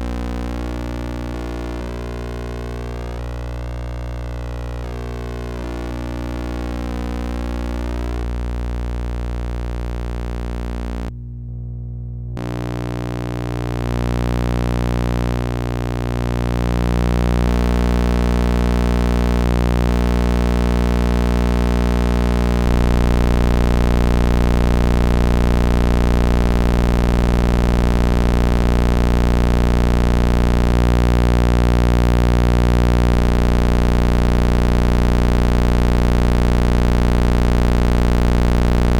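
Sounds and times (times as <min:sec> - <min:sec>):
low buzzing oscillator tone: 0:00.0 - 0:38.9.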